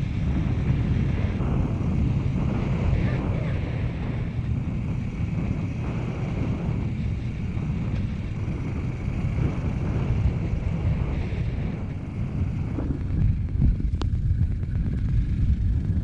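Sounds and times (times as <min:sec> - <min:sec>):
dirt bike engine running: 0:00.0 - 0:16.0
wind noise on microphone: 0:00.0 - 0:16.0.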